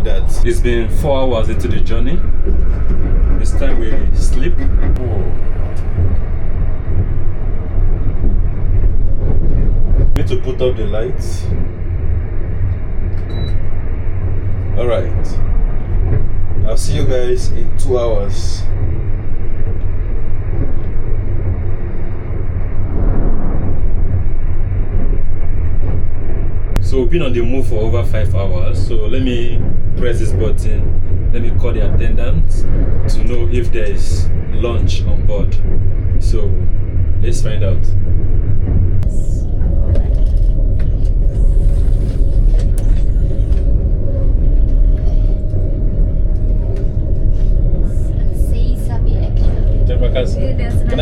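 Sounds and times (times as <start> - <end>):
faint constant hum: 0.0 - 51.0
train running low rumble: 0.0 - 51.0.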